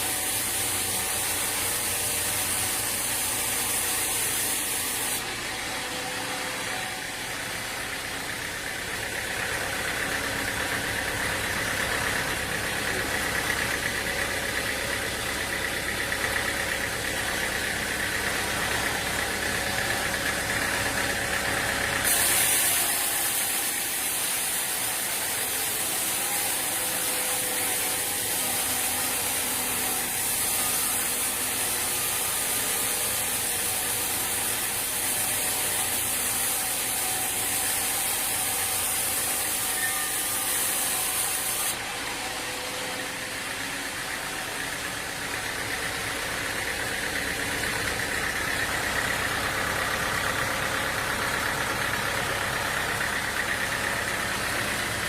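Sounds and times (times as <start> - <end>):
hissing machine noise: 0.0 - 55.0
sawmill machinery drone: 0.0 - 55.0.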